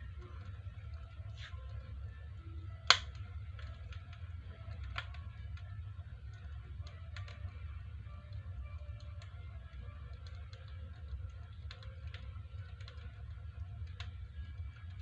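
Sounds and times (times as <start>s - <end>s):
fire low rumble: 0.0s - 15.0s
wood fire crackling pops: 0.0s - 15.0s.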